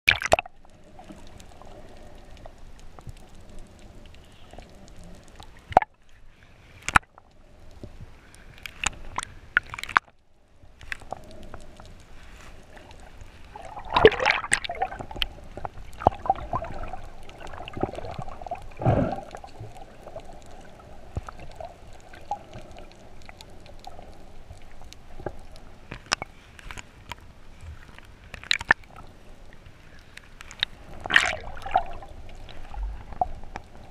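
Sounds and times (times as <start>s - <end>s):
faint steady hum: 0.1s - 33.9s
muffled water gurgling: 0.1s - 33.9s
sharp clicks and splashes: 0.1s - 33.9s.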